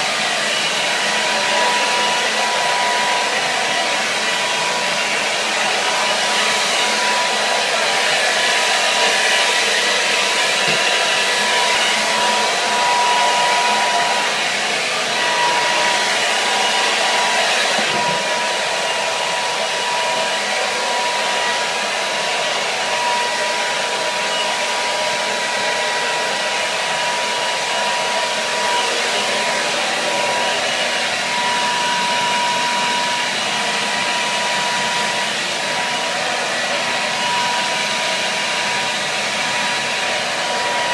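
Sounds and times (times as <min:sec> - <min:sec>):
hair dryer blowing air: 0:00.0 - 0:40.9.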